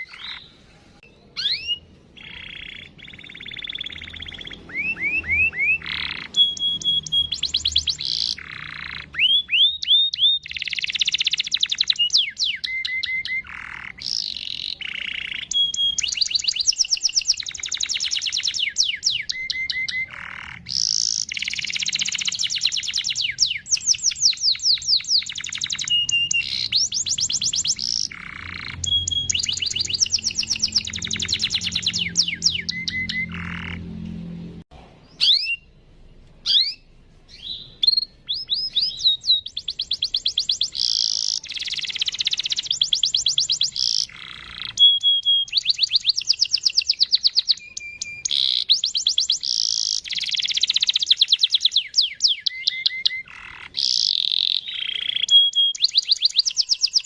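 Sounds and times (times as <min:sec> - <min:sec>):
canary singing trills: 0:00.0 - 0:34.3, 0:35.1 - 0:57.0.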